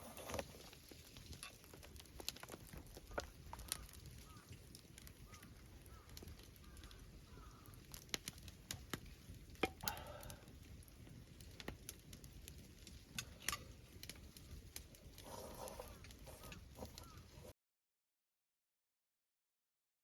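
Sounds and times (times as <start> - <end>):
burning wood crackling: 0.0 - 17.5.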